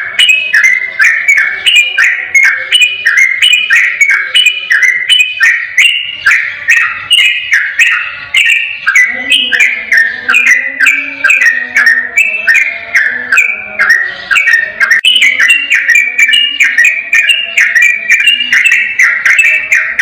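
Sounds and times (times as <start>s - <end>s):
bird singing whistled notes: 0.0s - 20.0s.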